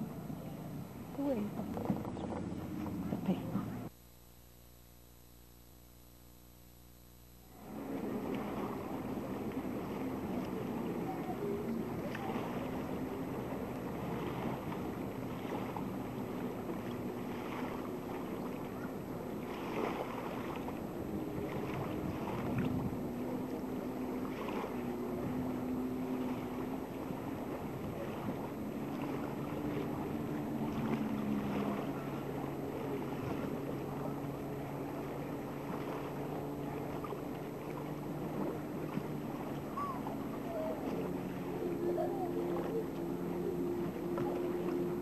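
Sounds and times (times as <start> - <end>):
waves lapping at shore: 0.0 - 4.0, 7.2 - 45.0
distant motorboat engine drone: 0.0 - 45.0
wind on microphone: 7.6 - 45.0.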